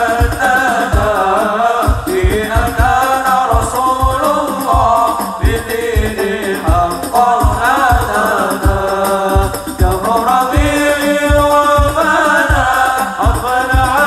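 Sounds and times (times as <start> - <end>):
frame drum and bass drum beat: 0.0 - 14.0
men singing: 0.0 - 14.0.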